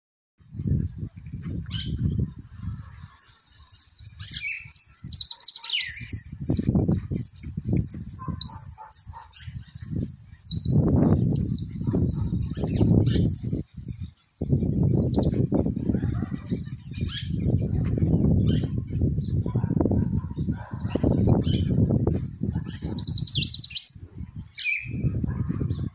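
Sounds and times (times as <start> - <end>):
finch singing chirps and trills: 0.4 - 25.9.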